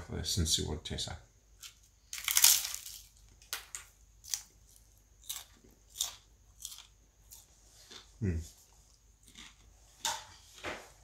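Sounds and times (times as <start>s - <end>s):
crunchy cracker chewing: 1.6s - 10.6s.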